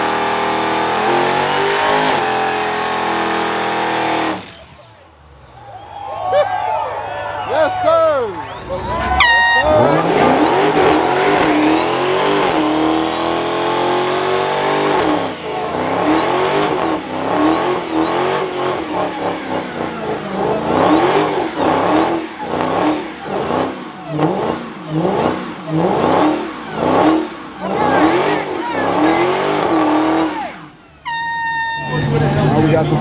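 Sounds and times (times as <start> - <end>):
car engine revving: 0.0 - 5.9, 8.3 - 31.0, 31.7 - 33.0.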